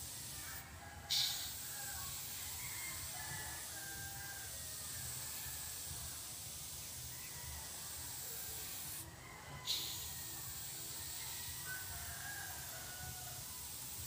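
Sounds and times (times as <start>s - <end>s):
airbrush hissing: 0.0s - 14.0s.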